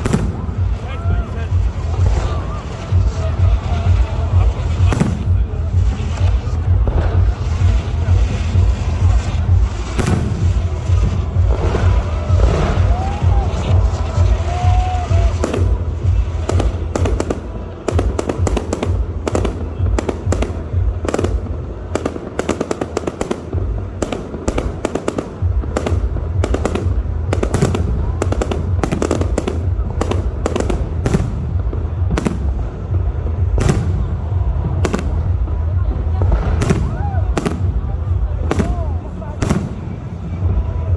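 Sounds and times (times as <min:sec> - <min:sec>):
fireworks cracking and popping: 0:00.0 - 0:40.9
steady low rumble: 0:00.0 - 0:40.9.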